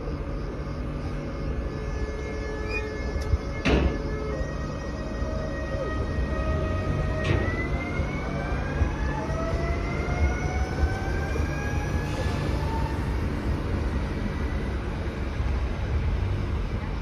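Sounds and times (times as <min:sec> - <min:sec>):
train traction motors whining: 0:00.0 - 0:17.0
wheels rumbling on rail: 0:00.0 - 0:17.0.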